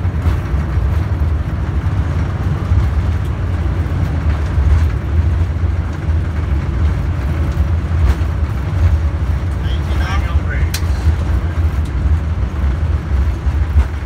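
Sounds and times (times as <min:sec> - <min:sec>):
airliner rolling on runway: 0:00.0 - 0:14.0.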